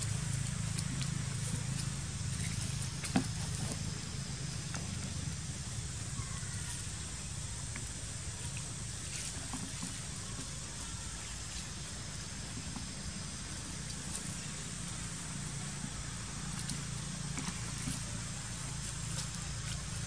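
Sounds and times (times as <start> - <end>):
background rumble and hiss: 0.0 - 20.0.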